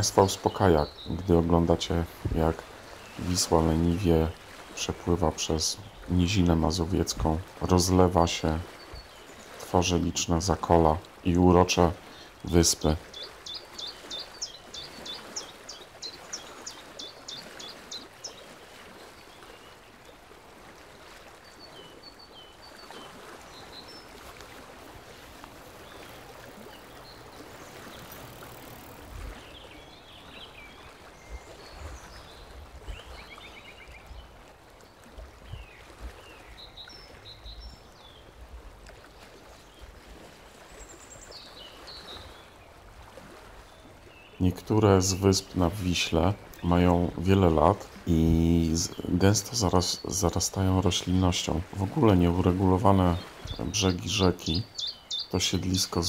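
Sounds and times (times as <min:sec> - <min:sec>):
flowing water rushing: 0:00.0 - 0:56.0
songbirds chirping: 0:00.0 - 0:56.0.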